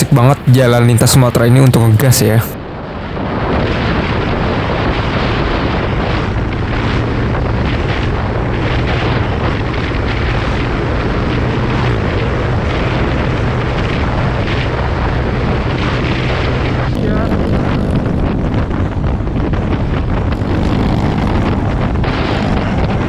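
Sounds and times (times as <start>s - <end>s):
wind rush on microphone: 0.0s - 23.0s
scooter engine drone: 2.6s - 23.0s.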